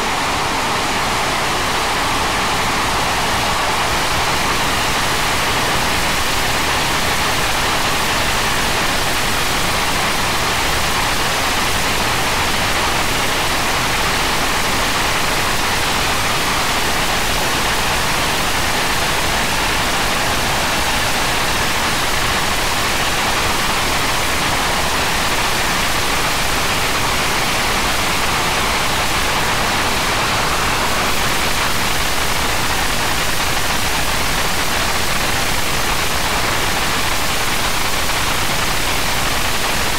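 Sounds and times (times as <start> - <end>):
jet engine running at high power: 0.0 - 39.9.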